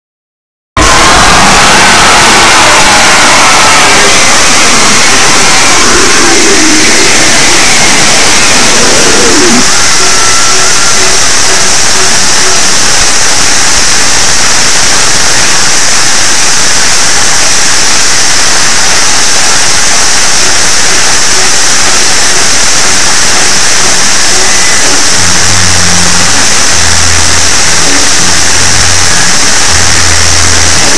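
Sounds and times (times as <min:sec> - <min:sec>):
harsh distorted noise: 0:00.8 - 0:30.9
low buzzing tone: 0:00.8 - 0:30.9.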